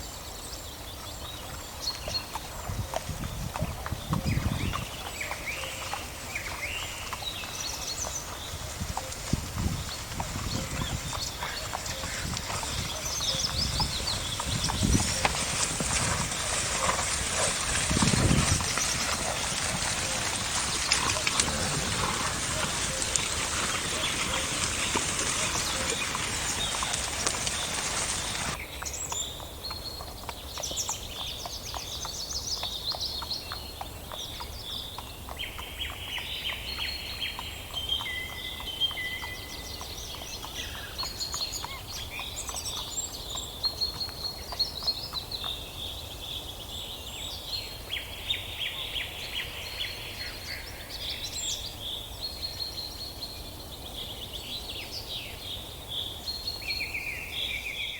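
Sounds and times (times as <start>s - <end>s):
songbirds chirping and singing: 0.0s - 57.9s.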